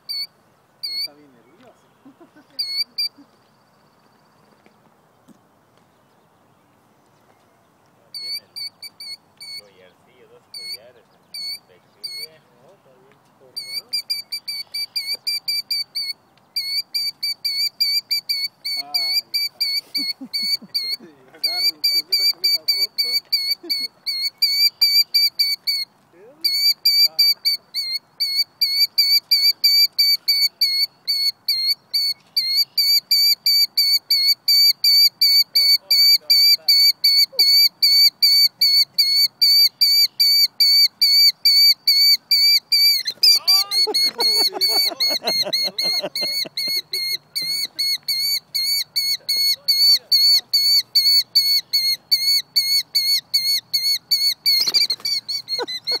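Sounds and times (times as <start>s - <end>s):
lower gliding bird cries: 0.0s - 1.2s, 1.9s - 4.4s, 8.1s - 9.7s, 10.4s - 12.3s, 13.5s - 56.0s
bird alarm calls: 0.0s - 4.8s, 7.3s - 12.6s, 13.4s - 56.0s.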